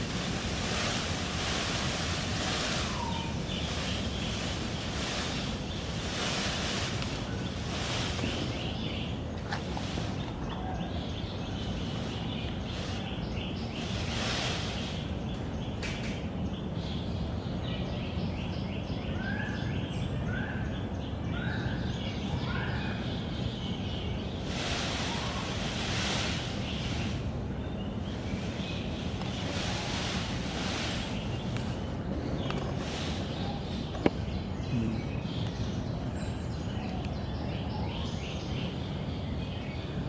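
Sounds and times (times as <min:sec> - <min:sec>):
wind rumbling on microphone: 0:00.0 - 0:19.4, 0:22.9 - 0:40.0.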